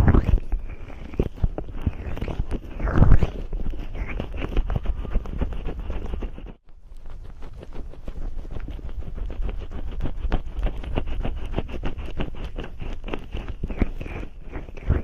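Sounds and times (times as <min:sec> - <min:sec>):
fingers rubbing cream on microphone: 0:00.0 - 0:15.0.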